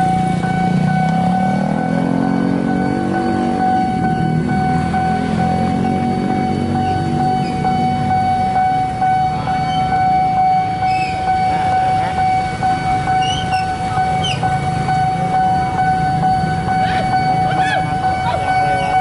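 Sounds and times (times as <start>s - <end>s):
deep engine rumble: 0.0s - 19.0s
level crossing warning siren: 0.0s - 19.0s
vehicle engines running: 0.0s - 19.0s.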